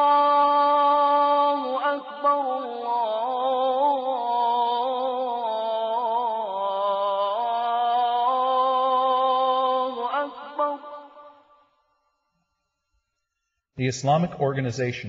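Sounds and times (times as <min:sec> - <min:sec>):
person chanting: 0:00.0 - 0:11.3, 0:13.8 - 0:15.0.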